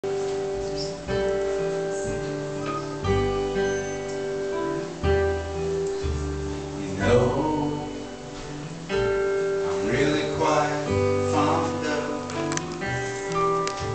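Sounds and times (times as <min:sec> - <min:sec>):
acoustic guitar: 0:00.0 - 0:13.9
upright double bass: 0:00.0 - 0:13.9.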